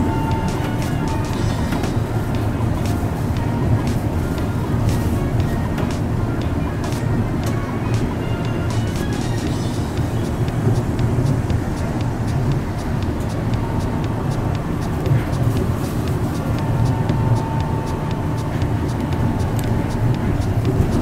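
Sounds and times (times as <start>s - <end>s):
faint steady whine: 0.0s - 21.0s
train rumbling on guideway: 0.0s - 21.0s.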